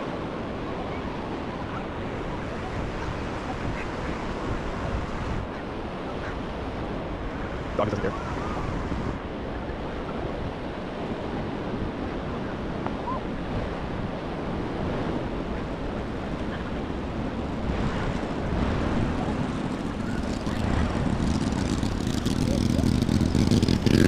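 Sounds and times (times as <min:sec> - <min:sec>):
surf washing onto beach: 0:00.0 - 0:24.0
wind on microphone: 0:00.0 - 0:24.0.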